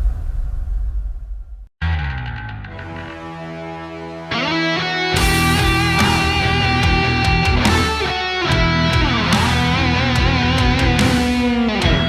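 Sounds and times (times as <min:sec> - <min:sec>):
drums: 0:00.0 - 0:03.6, 0:04.9 - 0:12.0
distorted electric guitar: 0:01.8 - 0:12.0
rock music: 0:01.8 - 0:12.0.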